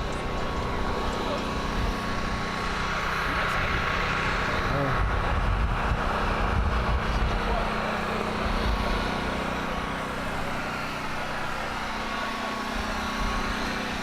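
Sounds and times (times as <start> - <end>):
outdoor background noise: 0.0 - 14.0
vehicle engine humming: 0.0 - 14.0.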